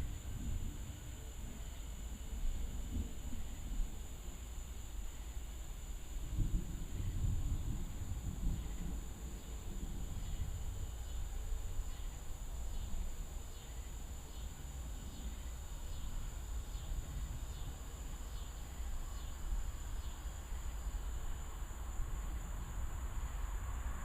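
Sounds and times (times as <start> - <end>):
crickets chirping: 0.0 - 24.0
high insect drone: 0.0 - 24.0.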